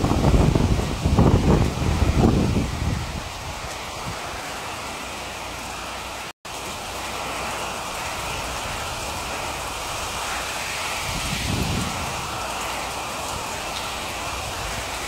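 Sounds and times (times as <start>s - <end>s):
heavy rain pouring on foliage: 0.0s - 15.0s.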